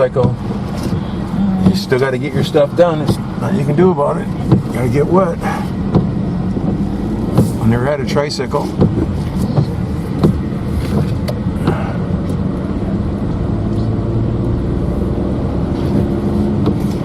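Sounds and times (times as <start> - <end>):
car engine and tyre drone: 0.0 - 17.0.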